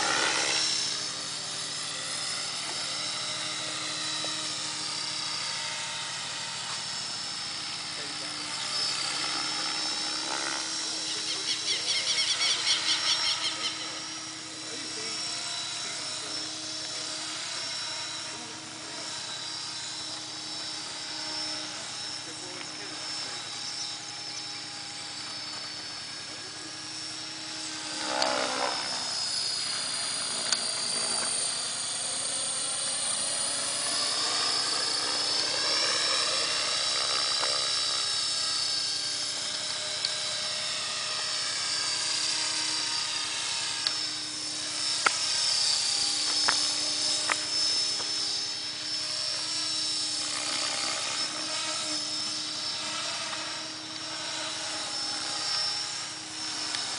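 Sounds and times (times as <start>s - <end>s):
rc helicopter motor whine: 0.0s - 56.9s.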